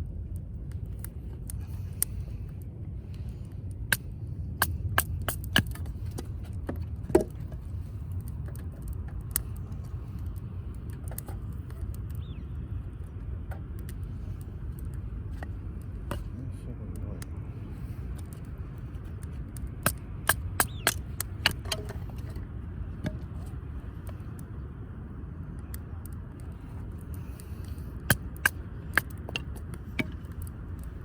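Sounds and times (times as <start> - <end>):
firewood crackling and popping: 0.0 - 31.0.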